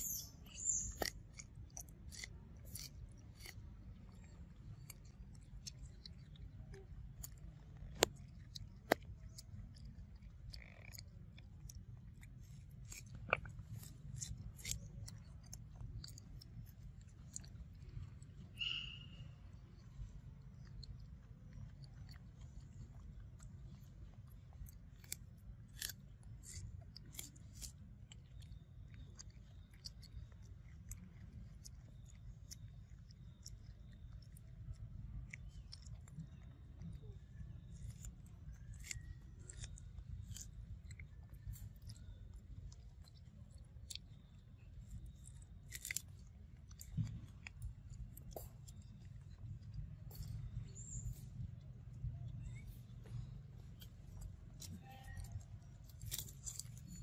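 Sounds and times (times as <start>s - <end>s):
low steady rumble: 0.0s - 57.0s
monkey chewing corn: 0.0s - 57.0s.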